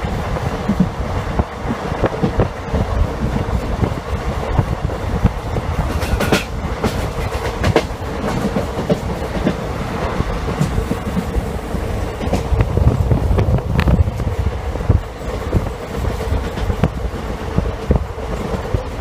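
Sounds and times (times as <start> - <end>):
train wheels rumbling on rails: 0.0 - 19.0
wheels clicking over rail joints: 0.0 - 19.0.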